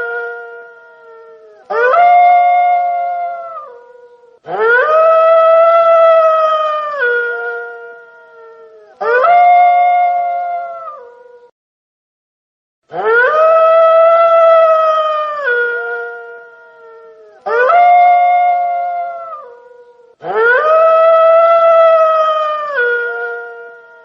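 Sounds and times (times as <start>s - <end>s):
wolf howling: 0.0s - 11.5s, 12.9s - 24.0s.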